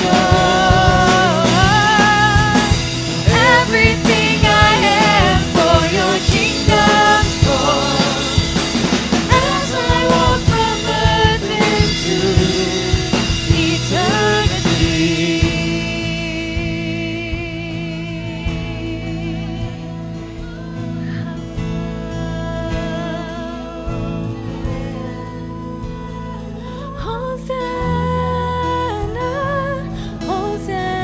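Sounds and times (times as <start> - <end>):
person singing: 0.0 - 31.0
worship band playing slow song: 0.0 - 31.0.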